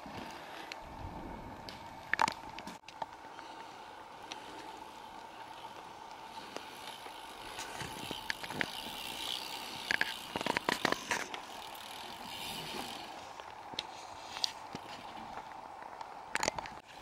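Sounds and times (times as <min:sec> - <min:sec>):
mountain bike chain clattering: 0:01.7 - 0:17.0.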